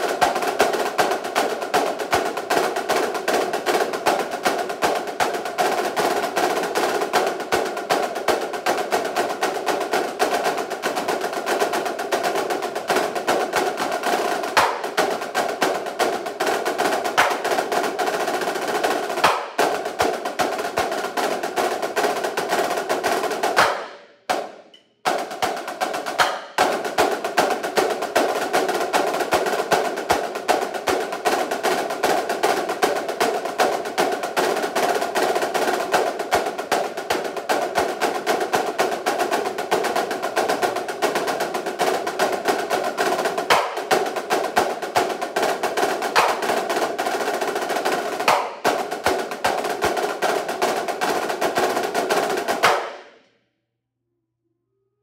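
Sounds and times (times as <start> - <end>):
snare drums rolling: 0.0 - 53.1.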